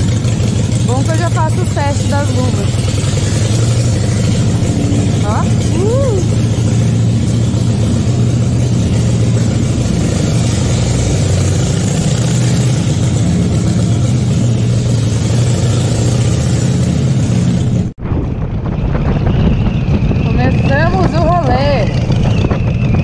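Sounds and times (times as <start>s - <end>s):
motorcycle engine echoing in garage: 0.0s - 18.0s, 19.5s - 23.0s.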